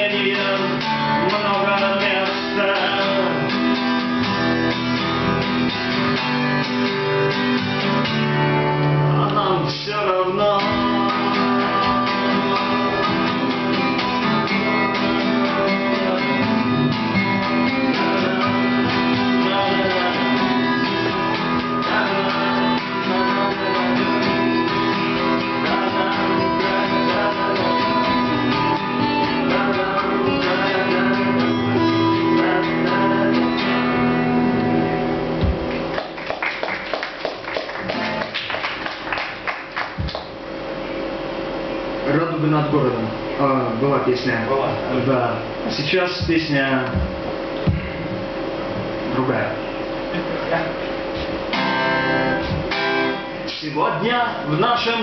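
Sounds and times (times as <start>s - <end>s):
acoustic guitars strummed and picked: 0.0s - 55.0s.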